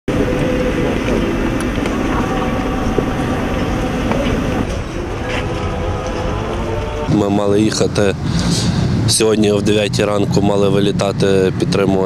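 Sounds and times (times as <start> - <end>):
low crowd rumble: 0.1 - 12.0
murmuring voices: 0.1 - 12.0.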